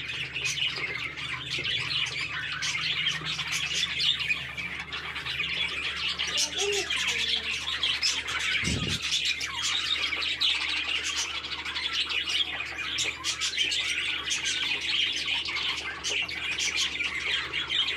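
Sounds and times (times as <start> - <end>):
budgerigars chattering: 0.0 - 17.9.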